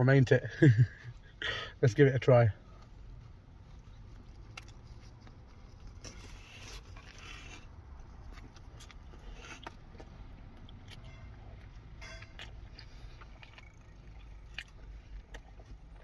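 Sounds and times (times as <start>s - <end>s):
man chewing food: 2.6s - 16.0s
rustling mouth sounds: 2.6s - 16.0s.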